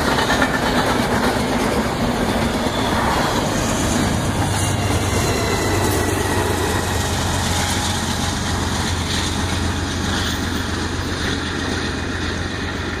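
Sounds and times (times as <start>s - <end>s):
locomotive engine drone: 0.0s - 13.0s
train rumbling on rails: 0.0s - 13.0s.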